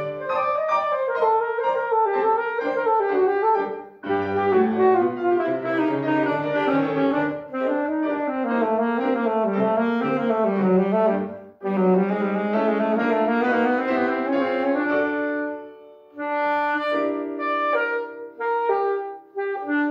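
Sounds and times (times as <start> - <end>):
alto saxophone playing runs: 0.0 - 15.6, 16.2 - 19.9
piano accompaniment: 0.0 - 19.9.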